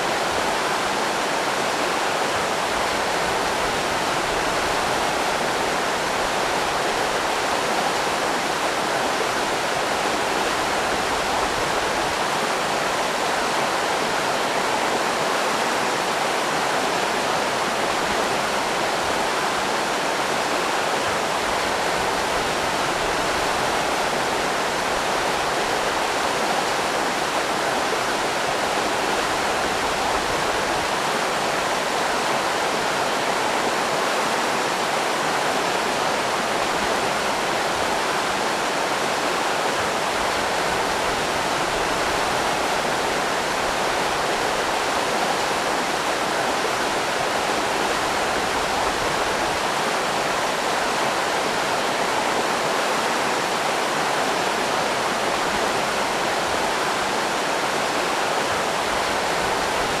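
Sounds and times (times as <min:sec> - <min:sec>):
river rapids rushing: 0:00.0 - 1:00.0.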